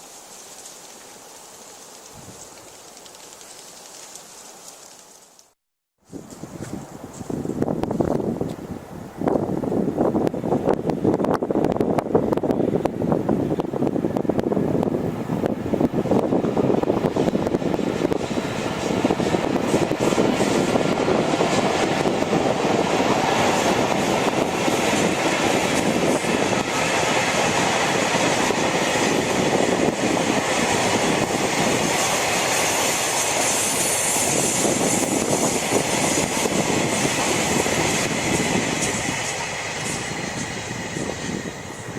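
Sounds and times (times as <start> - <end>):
freight train wheels on rails: 6.1 - 41.9.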